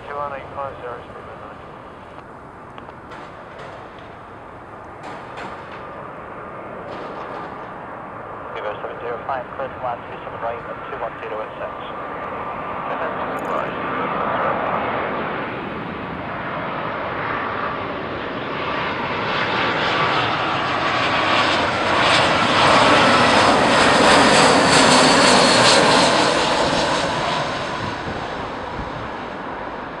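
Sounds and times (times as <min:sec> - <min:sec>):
high engine whine: 0:00.0 - 0:30.0
jet engines passing by: 0:00.0 - 0:30.0.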